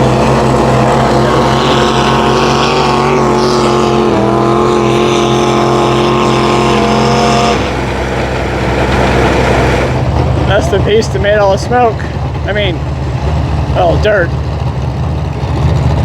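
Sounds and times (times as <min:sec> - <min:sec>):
threshing machine droning hum: 0:00.0 - 0:16.0.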